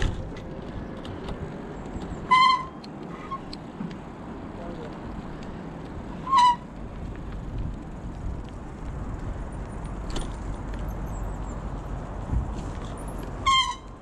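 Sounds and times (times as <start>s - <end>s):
bicycle tyre rumble: 0.0s - 14.0s
wind: 0.0s - 14.0s.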